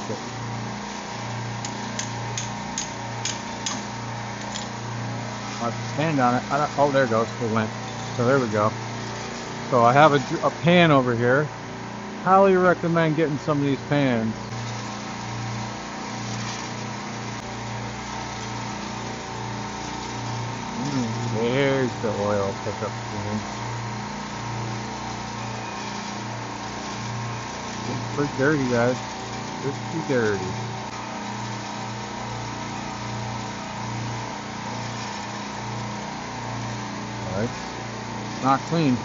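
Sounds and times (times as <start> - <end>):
constant hiss: 0.0 - 39.0
refrigeration compressor humming: 0.0 - 39.0.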